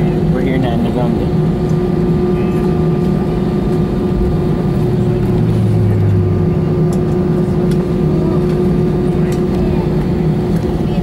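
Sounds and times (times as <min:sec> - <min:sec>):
deep low hum: 0:00.0 - 0:11.0
jet engines idling hum: 0:00.0 - 0:11.0.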